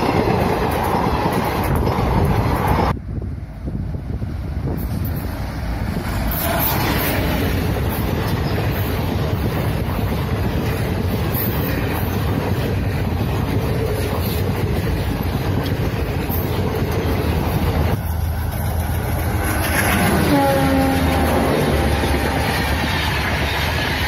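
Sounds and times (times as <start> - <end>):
train wheels clattering on rails: 0.0 - 3.0, 4.6 - 24.0
diesel locomotive passing: 0.0 - 24.0.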